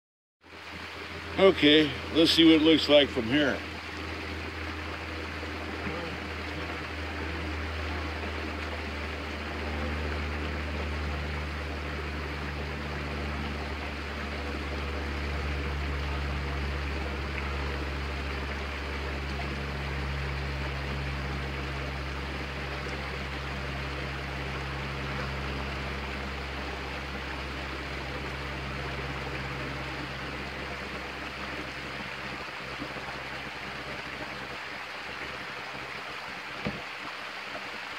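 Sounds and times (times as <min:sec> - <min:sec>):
low hum: 0:00.5 - 0:37.6.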